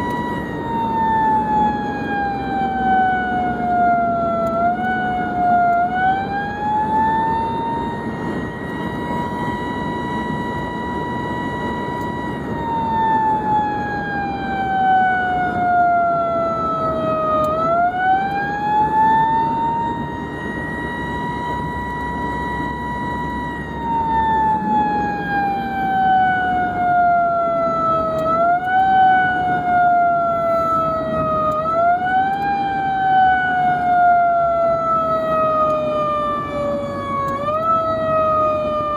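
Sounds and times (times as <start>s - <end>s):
emergency siren wailing: 0.0s - 38.9s
road and engine noise: 0.0s - 38.9s.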